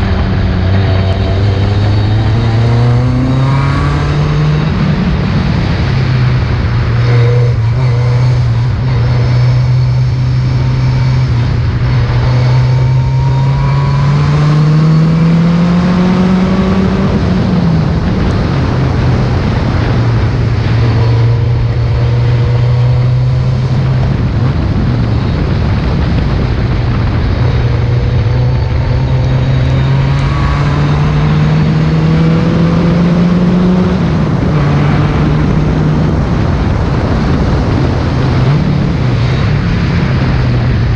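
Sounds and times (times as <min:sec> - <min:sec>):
rally car engine running hard: 0:00.0 - 0:40.9.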